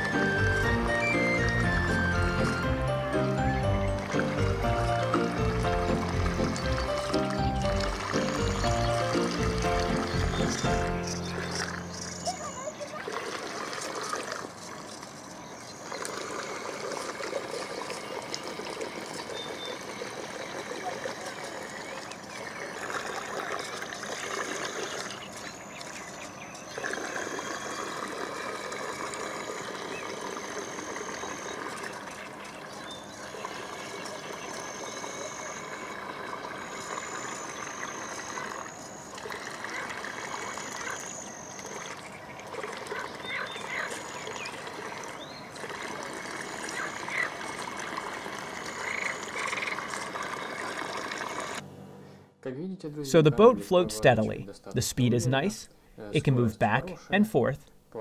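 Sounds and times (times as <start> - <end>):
water churning and splashing: 0.0 - 51.6.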